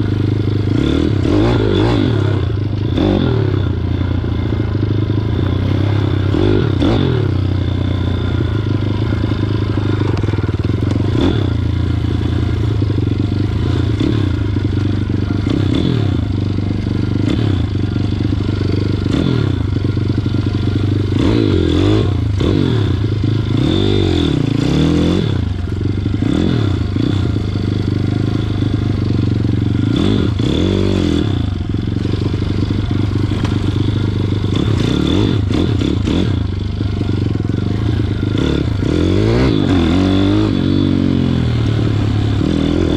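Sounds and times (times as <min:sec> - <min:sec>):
motorbike engine revving: 0:00.0 - 0:42.9.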